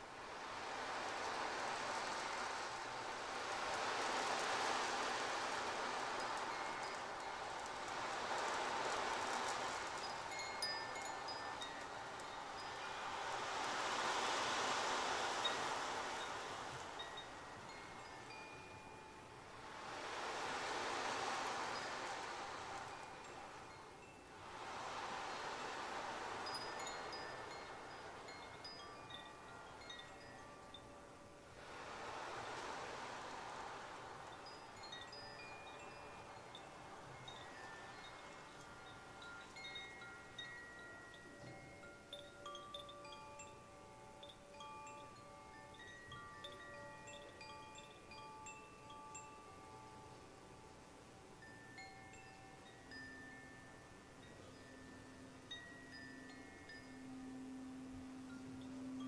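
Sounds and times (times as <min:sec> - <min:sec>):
wind chimes tinkling: 0:00.0 - 0:59.0.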